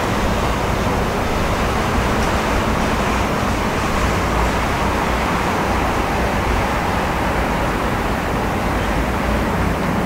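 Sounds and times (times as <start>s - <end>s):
rumbling outdoor hiss: 0.0s - 10.0s.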